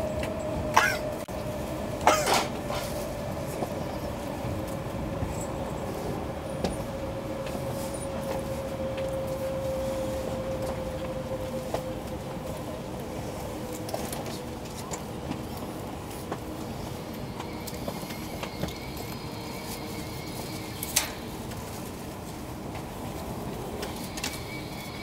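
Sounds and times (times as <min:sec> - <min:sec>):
train running gear rumble: 0:00.0 - 0:25.0.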